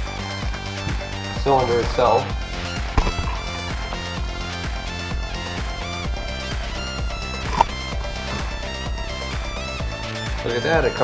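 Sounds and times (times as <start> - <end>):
instrumental music with guitar: 0.0 - 11.0.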